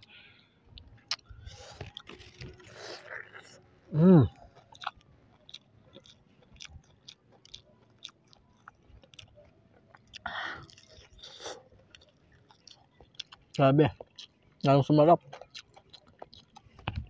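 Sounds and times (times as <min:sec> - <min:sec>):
chewing mouth clicks: 0:00.8 - 0:03.6, 0:04.3 - 0:17.0.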